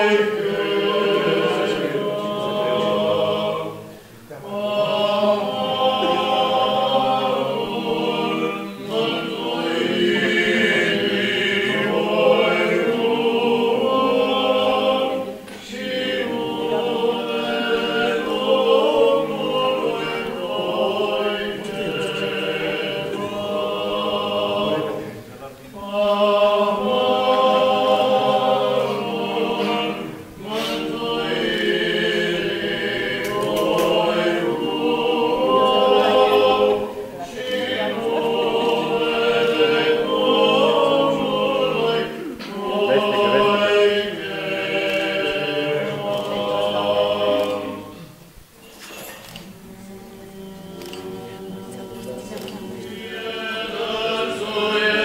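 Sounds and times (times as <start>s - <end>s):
choir chanting a cappella: 0.0s - 55.0s.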